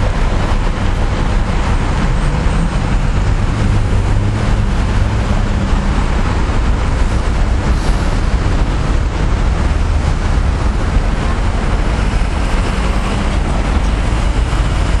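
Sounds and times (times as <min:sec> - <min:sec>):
cars driving past: 0:00.0 - 0:15.0
wind rumble on microphone: 0:00.0 - 0:15.0.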